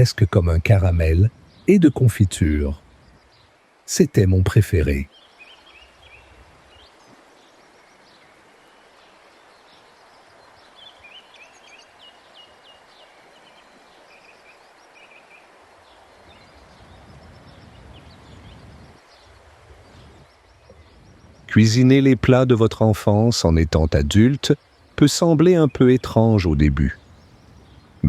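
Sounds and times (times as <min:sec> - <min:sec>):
low steady hiss: 0:00.0 - 0:28.0
small birds chirping: 0:00.0 - 0:28.0.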